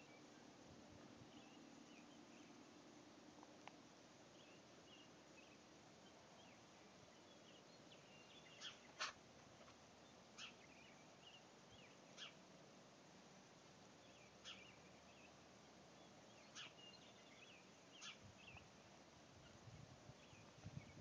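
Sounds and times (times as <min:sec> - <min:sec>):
small birds chirping faintly: 0:00.0 - 0:21.0.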